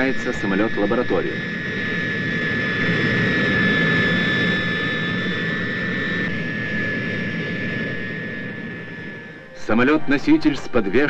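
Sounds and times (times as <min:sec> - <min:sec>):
jet aircraft taking off: 0:00.0 - 0:11.0.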